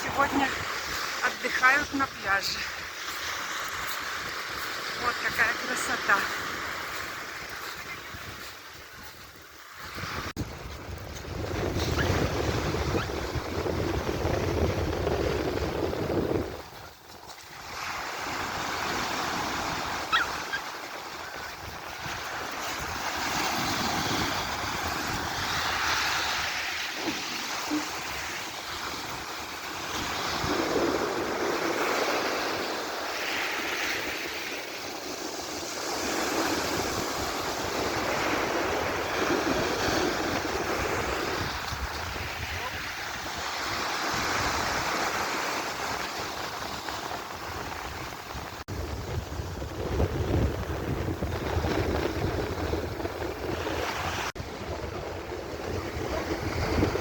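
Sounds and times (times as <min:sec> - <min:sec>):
surf breaking on beach: 0:00.0 - 0:57.0
wind rumble on microphone: 0:06.1 - 0:57.0.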